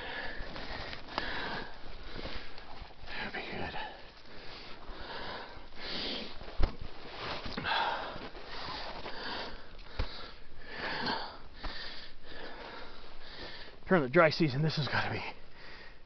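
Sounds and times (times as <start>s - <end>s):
person breathing hard: 0.0s - 6.5s, 7.5s - 13.8s, 15.4s - 16.0s.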